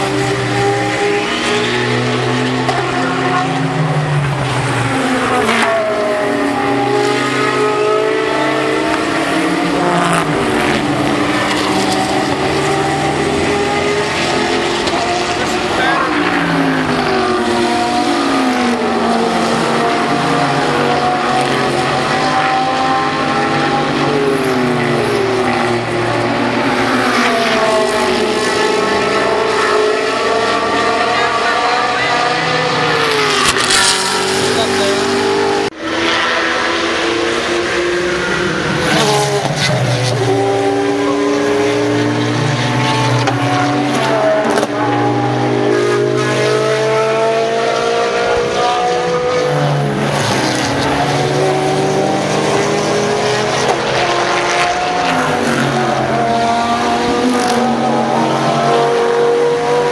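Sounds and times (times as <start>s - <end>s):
race car engines running hard: 0.0s - 59.9s.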